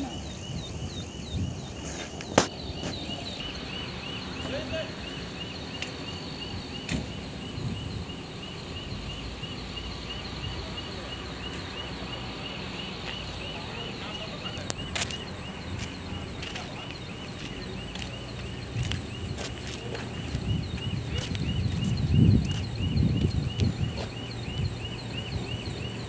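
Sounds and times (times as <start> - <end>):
diesel engine running steadily: 2.0 - 26.0.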